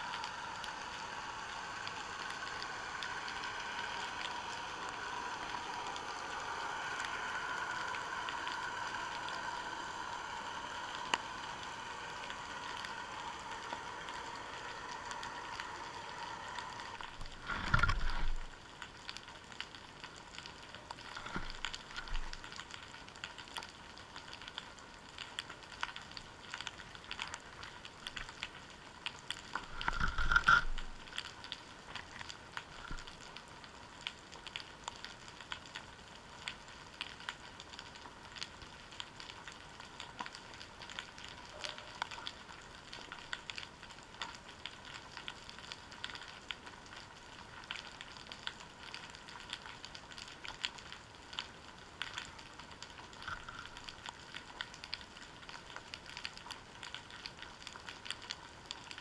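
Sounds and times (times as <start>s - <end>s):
underwater crackle of tiny clicks: 0.0s - 59.0s.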